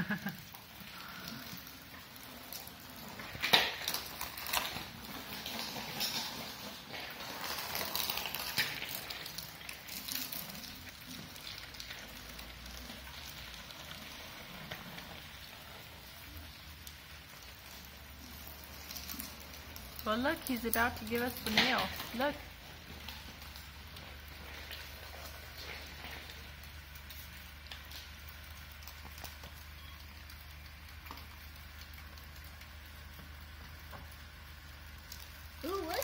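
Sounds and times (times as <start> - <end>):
bicycle rolling and splashing: 0.0 - 36.0
rain on wet pavement: 0.0 - 36.0.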